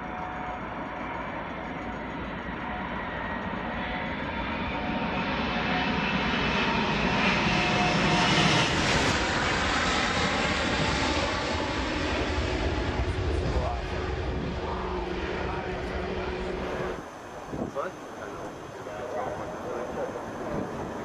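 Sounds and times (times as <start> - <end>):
jet airliner engines whining: 0.0 - 21.0.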